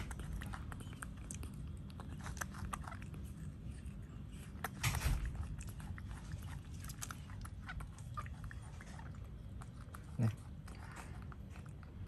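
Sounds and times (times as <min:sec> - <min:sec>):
monkey chewing fruit: 0:00.0 - 0:12.0.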